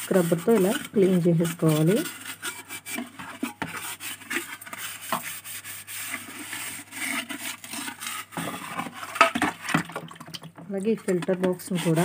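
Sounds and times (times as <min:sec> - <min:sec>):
scouring pad scrubbing plastic: 0:00.0 - 0:12.0.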